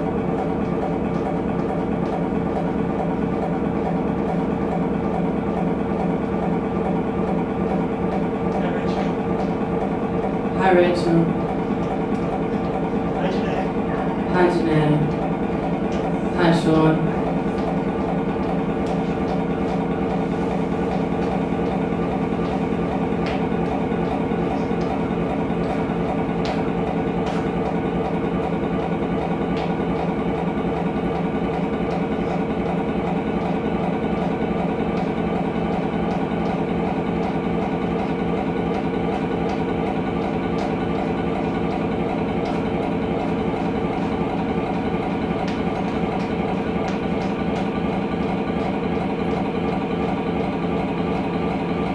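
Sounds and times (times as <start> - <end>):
steady mechanical drone: 0.0 - 51.9.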